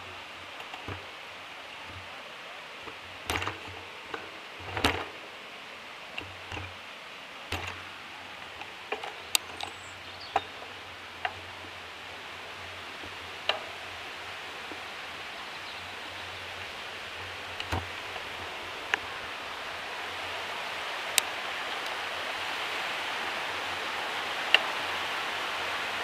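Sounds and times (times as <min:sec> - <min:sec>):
river water rushing over cascades: 0:00.0 - 0:26.0.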